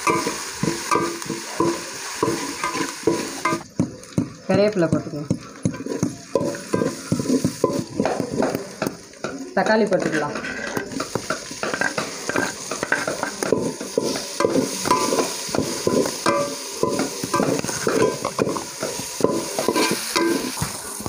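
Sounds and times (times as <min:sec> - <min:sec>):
spoon scraping a pan: 0:00.0 - 0:04.3, 0:05.4 - 0:21.0
vegetables sizzling in oil: 0:00.0 - 0:21.0.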